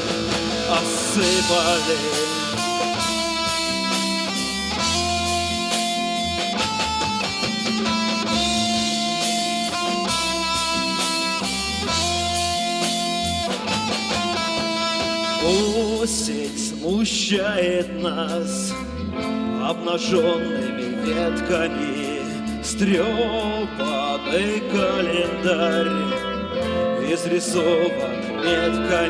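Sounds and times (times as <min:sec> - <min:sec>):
bass line: 0:00.0 - 0:29.0
lead guitar melody: 0:00.0 - 0:29.0
strummed guitar: 0:00.0 - 0:29.0.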